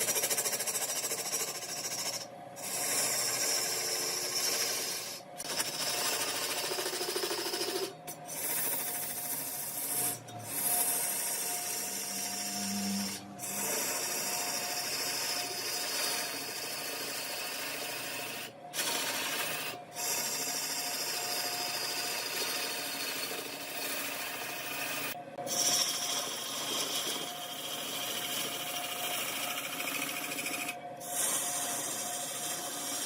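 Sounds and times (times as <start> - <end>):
lathe tool scraping wood: 0.0 - 33.0.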